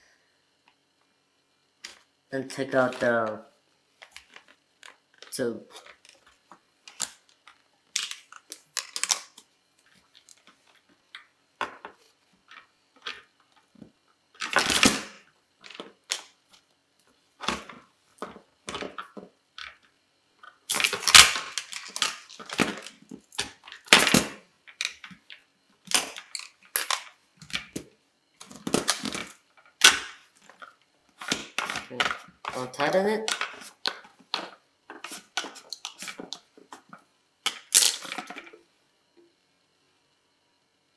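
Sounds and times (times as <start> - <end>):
plastic parts clicking and knocking: 4.0 - 16.4, 17.4 - 38.6.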